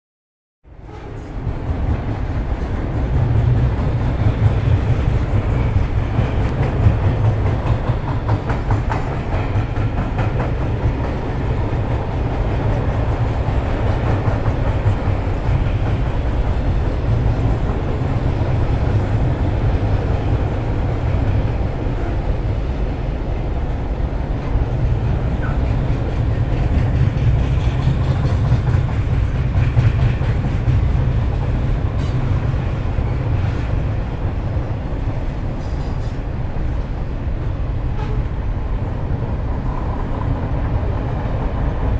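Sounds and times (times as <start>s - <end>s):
freight train on rails: 0.6s - 41.9s.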